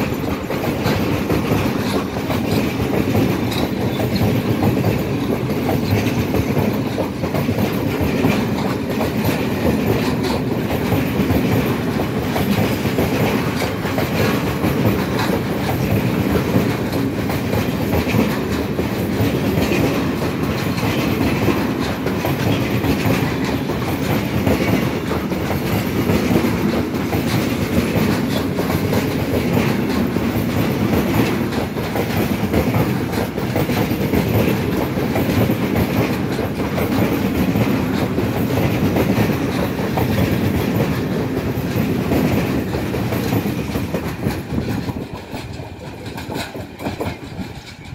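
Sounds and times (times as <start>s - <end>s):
clickety-clack over rail joints: 0.0s - 47.9s
train wheels rumbling on rails: 0.0s - 47.9s.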